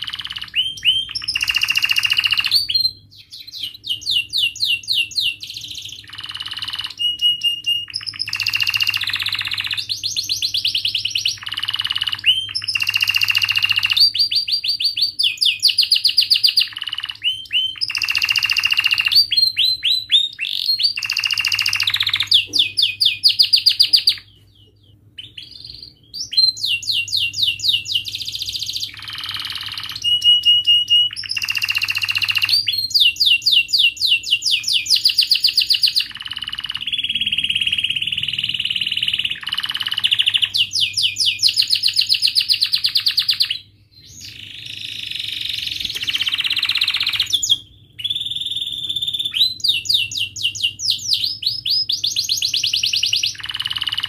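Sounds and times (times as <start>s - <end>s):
canary singing in trills: 0.0s - 54.0s.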